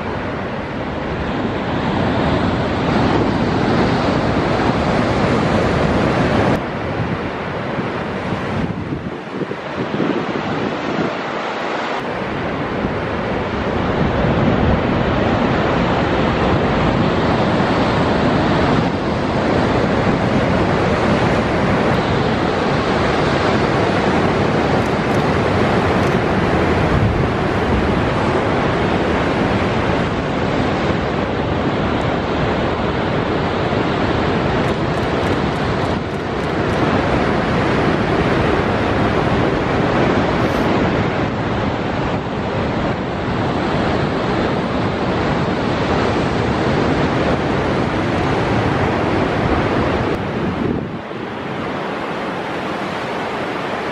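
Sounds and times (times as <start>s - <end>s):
heavy surf breaking: 0.0s - 53.9s
wind buffeting microphone: 0.0s - 53.9s.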